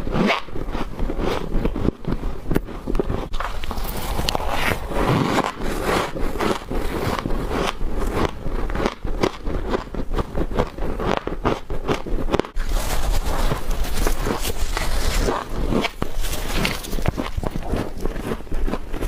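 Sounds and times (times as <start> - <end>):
frost crunching when chewed: 0.1 - 19.0.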